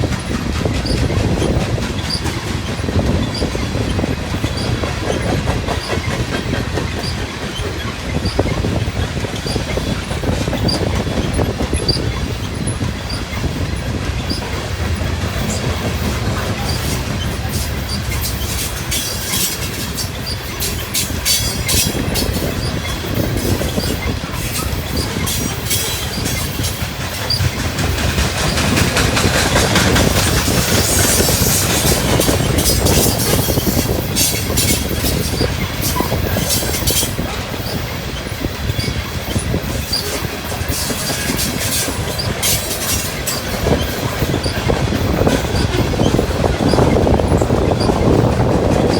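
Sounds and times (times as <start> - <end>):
train wheels clattering on rails: 0.0 - 48.9.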